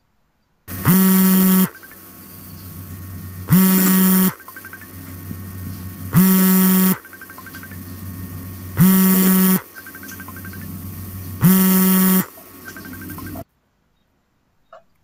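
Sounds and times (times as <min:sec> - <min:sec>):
faint steady hum: 0:00.0 - 0:13.5
loud low buzz: 0:00.7 - 0:13.4.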